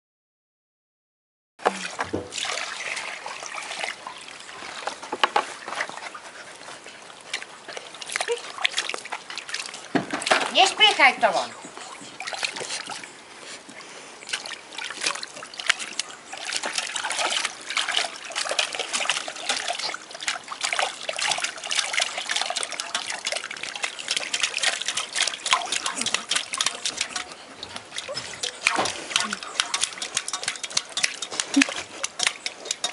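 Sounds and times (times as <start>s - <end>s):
puppy splashing in water bowl: 1.7s - 32.9s.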